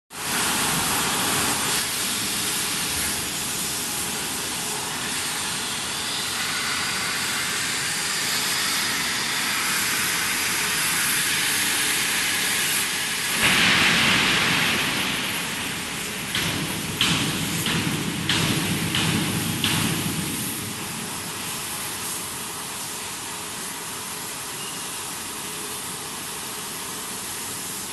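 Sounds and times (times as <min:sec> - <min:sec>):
gas torch flame hissing: 0:00.2 - 0:27.9.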